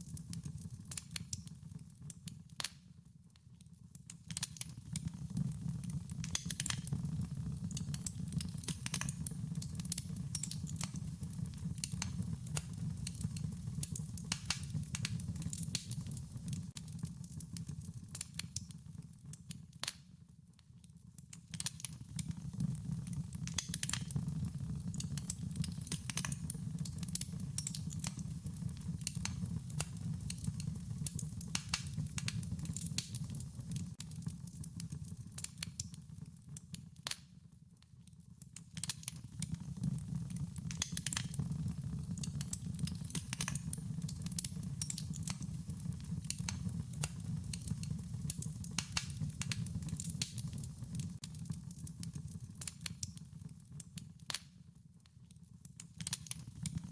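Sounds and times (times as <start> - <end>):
wood fire crackling: 0.0 - 2.9, 4.1 - 37.3, 38.4 - 54.5, 55.6 - 56.9.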